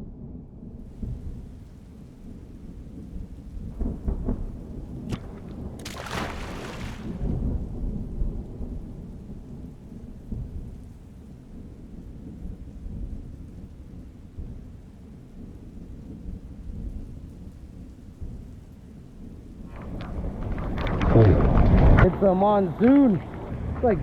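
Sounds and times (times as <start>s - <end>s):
rainstorm rumble: 0.7s - 24.0s.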